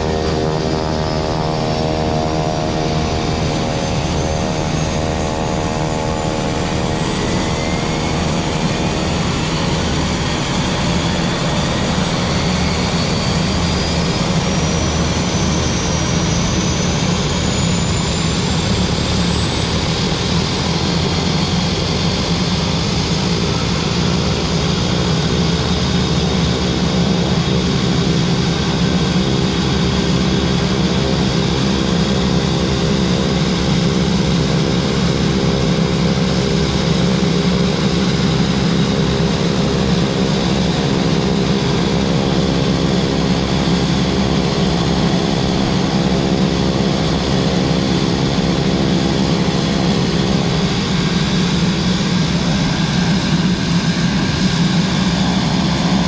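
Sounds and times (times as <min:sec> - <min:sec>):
turbine whine and propeller drone: 0:00.0 - 0:56.0
turboprop engines idling: 0:00.0 - 0:56.0.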